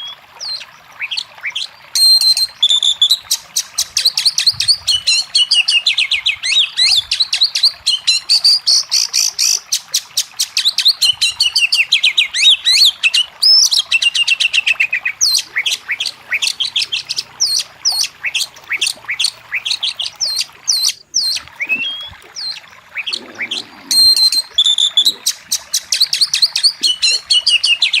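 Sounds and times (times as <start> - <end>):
bird singing chirps and whistles: 0.0 - 9.6, 10.5 - 28.0.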